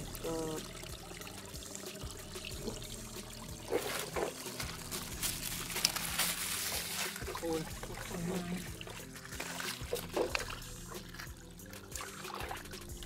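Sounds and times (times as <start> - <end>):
stream trickling over rocks: 0.0 - 13.0
water splashes and drips: 0.0 - 13.0.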